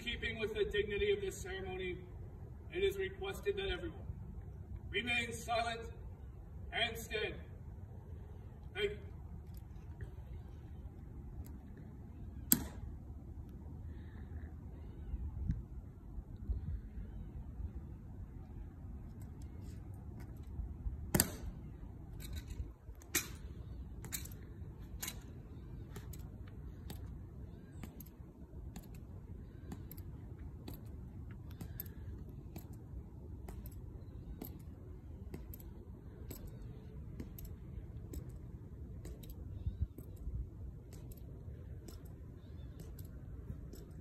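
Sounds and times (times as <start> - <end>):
low outdoor rumble: 0.0 - 44.0.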